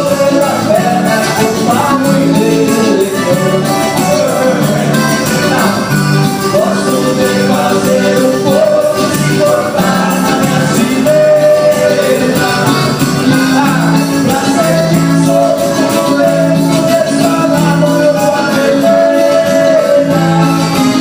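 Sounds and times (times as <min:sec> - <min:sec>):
band playing with singing: 0:00.0 - 0:21.0.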